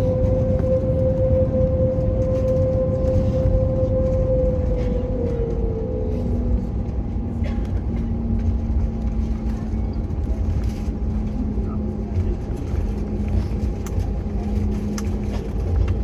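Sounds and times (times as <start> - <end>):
jet engines rumbling and whining: 0.0 - 16.0
low hum: 0.0 - 16.0.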